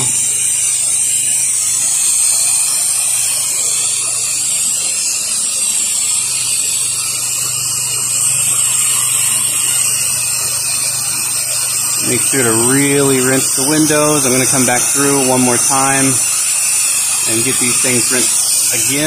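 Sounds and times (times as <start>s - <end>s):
pressure washer spraying water: 0.0s - 19.0s
steady low hum: 0.0s - 19.0s.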